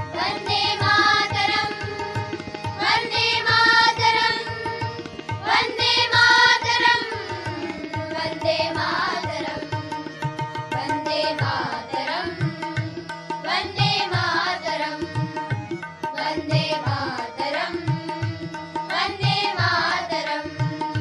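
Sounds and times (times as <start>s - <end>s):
harmonium: 0.0s - 21.0s
tabla beating: 0.0s - 21.0s
children singing: 0.1s - 9.7s, 10.8s - 15.4s, 16.2s - 20.8s.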